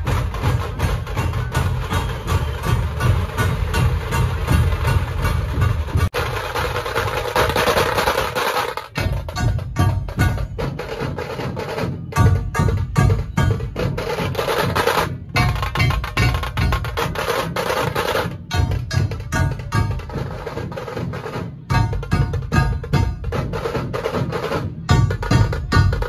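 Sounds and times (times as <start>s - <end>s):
heavy dhol drum beats: 0.0s - 26.0s
tasha drums rattling: 0.0s - 26.0s.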